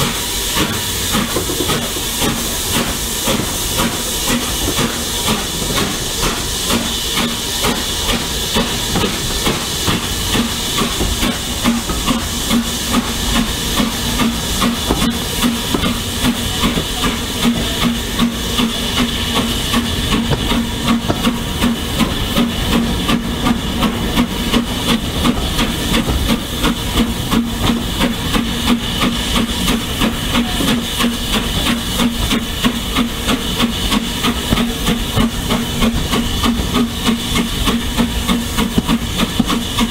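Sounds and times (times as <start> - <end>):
steam hissing: 0.0 - 39.9
steam locomotive exhaust chuffs: 0.0 - 39.9.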